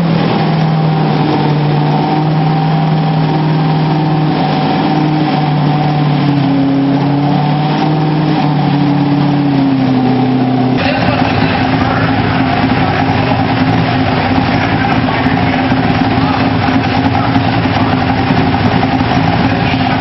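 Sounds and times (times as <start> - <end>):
car engine revving loud: 0.0 - 20.0.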